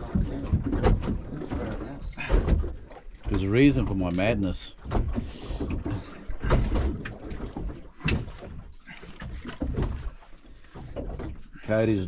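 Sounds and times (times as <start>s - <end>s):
knocks and thumps on boat deck: 0.0s - 11.7s.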